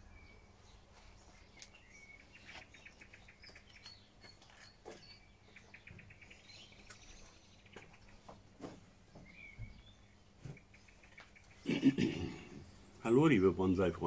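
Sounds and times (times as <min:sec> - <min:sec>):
songbirds whistling and trilling: 0:00.0 - 0:13.6.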